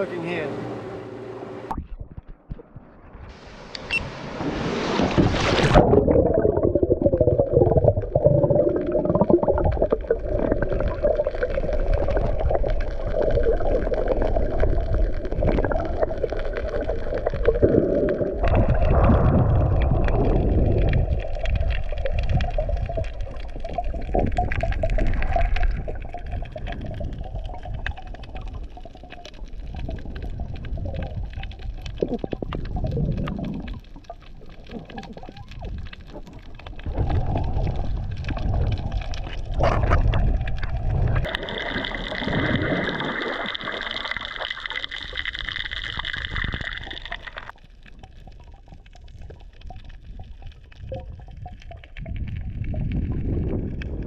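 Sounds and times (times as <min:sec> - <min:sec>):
low underwater rumbling: 0:00.0 - 0:54.0
underwater sloshing and bubbling: 0:00.0 - 0:54.0.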